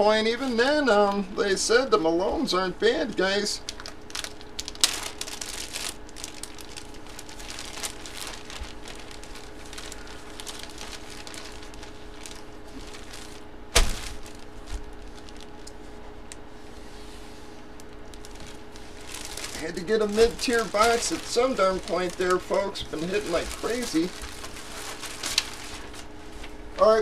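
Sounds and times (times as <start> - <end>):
faint steady hum: 0.0 - 27.0
plastic bag crinkling: 3.1 - 16.8, 17.4 - 26.9.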